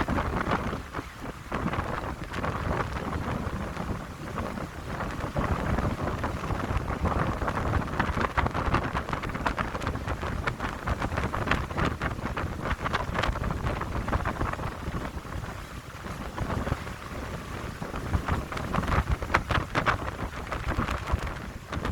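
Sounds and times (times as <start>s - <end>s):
wind buffeting microphone: 0.0s - 21.9s
wind through pine trees: 0.0s - 21.9s.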